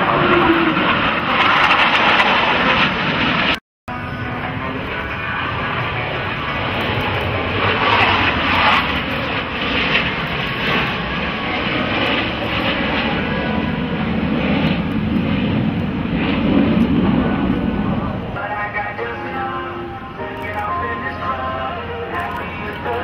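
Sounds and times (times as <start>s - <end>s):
deep jet rumble: 0.0s - 23.0s
jet engines rushing: 0.0s - 23.0s.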